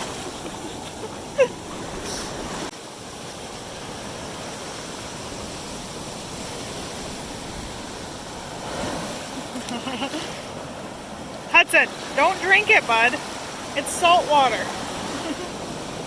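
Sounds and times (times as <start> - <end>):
small waves washing: 0.0 - 16.0.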